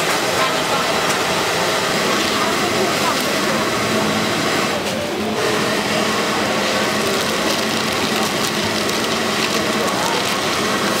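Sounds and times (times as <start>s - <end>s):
gas burner roaring: 0.0s - 11.0s.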